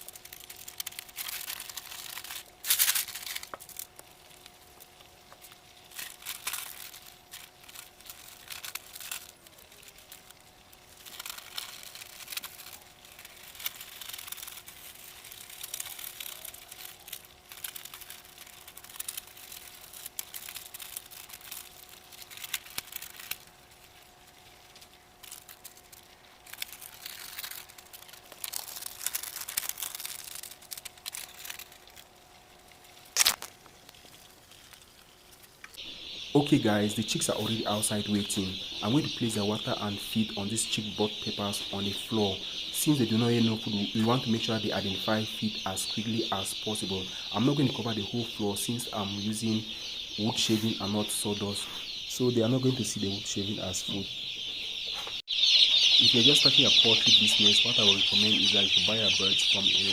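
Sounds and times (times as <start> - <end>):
dry material rustling and crinkling: 0.0 - 59.9
faint steady hum: 0.0 - 59.9.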